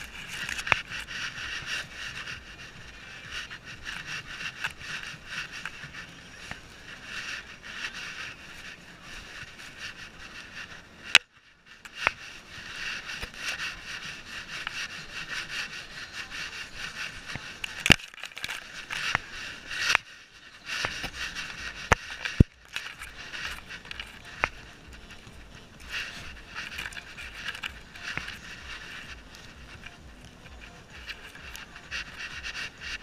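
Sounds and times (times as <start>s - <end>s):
fur brushing camera housing: 0.0s - 33.0s.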